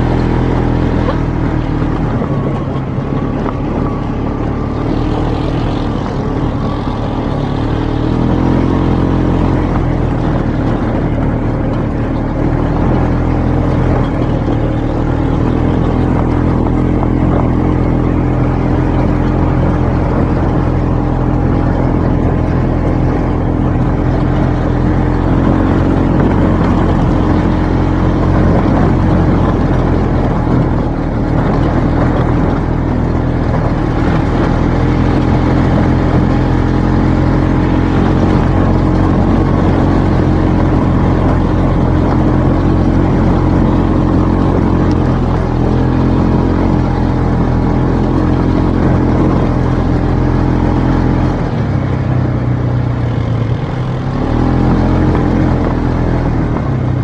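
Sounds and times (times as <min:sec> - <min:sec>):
noisy rush: 0:00.0 - 0:57.0
vehicle engine running: 0:00.0 - 0:57.0.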